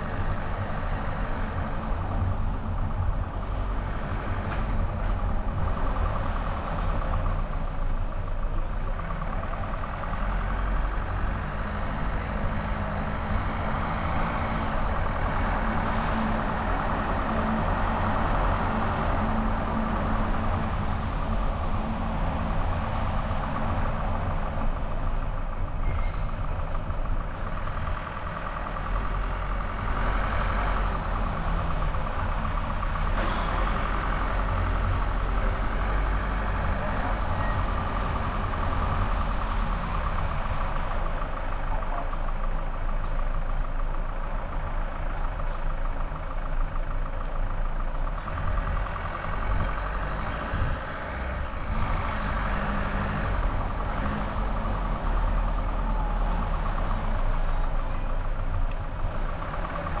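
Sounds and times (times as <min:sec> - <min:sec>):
car road noise: 0:00.0 - 1:00.0.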